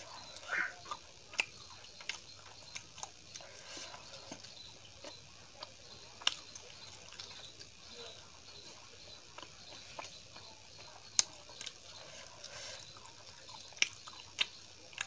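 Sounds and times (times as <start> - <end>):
mouth chewing sounds: 0.0 - 15.0.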